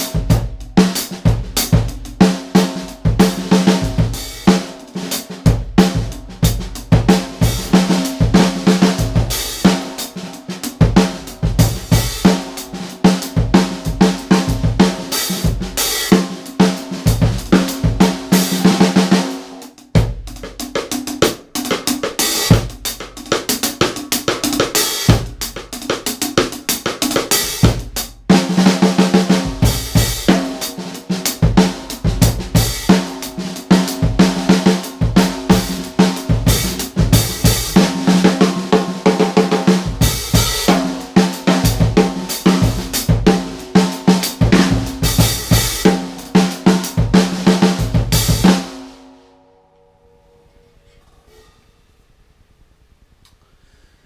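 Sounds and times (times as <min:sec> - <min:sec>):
cymbals: 0:00.0 - 0:01.8, 0:02.5 - 0:19.9, 0:21.2 - 0:52.4
snare drum: 0:00.0 - 0:48.9.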